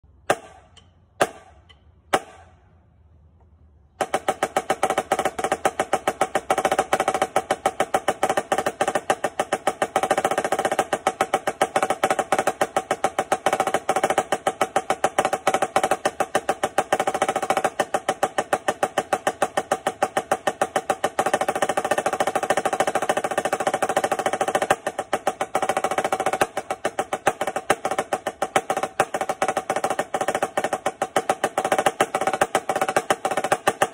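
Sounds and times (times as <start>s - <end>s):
snare drum rolls: 4.0s - 33.9s.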